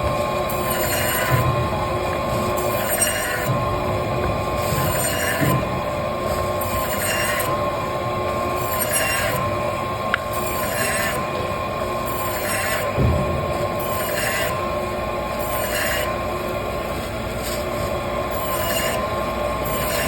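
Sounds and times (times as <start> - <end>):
cutting machine running: 0.0 - 20.0.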